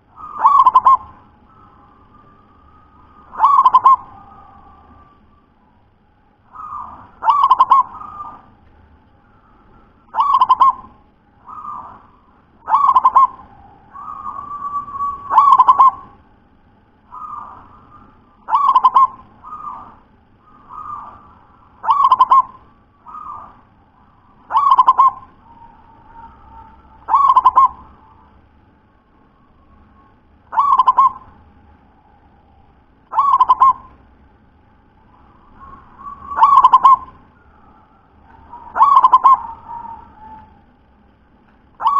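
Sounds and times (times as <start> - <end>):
dove cooing: 0.0 - 8.6, 9.3 - 16.3, 17.0 - 28.4, 29.8 - 34.1, 35.0 - 40.9.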